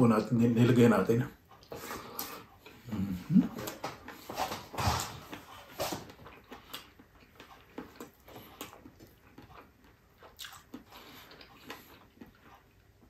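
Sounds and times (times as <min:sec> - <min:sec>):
man chewing with mouth smacks: 0:01.4 - 0:13.0.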